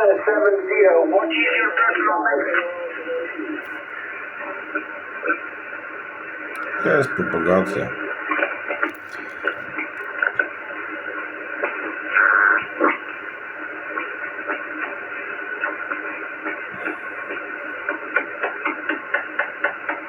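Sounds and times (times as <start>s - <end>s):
radio static hiss: 0.0s - 20.0s
static crackles: 0.0s - 20.0s.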